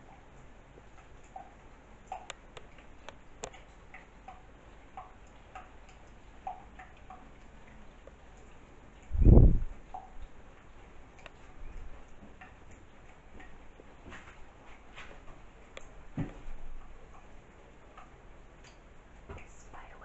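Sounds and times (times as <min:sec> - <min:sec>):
faint ticks: 0:00.0 - 0:20.0.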